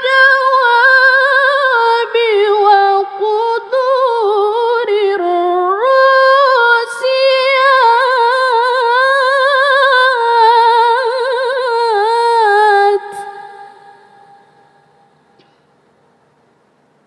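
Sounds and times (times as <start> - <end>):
woman reciting melodically: 0.0 - 14.8.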